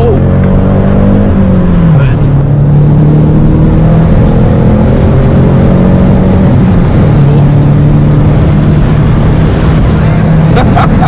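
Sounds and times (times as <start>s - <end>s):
car engine pulling: 0.0s - 11.0s
road and wind noise: 0.0s - 11.0s.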